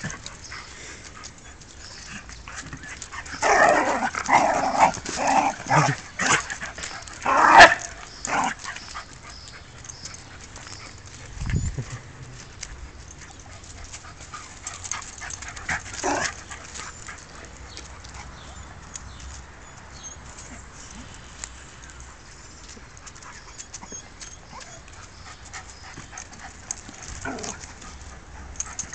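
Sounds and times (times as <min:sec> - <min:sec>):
dogs barking and yipping: 0:00.0 - 0:28.9.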